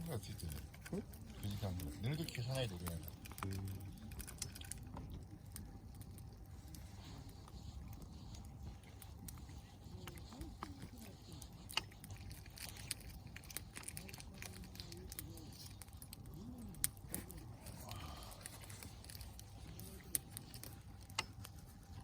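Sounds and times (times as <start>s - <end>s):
faint voices murmuring: 0.0s - 22.0s.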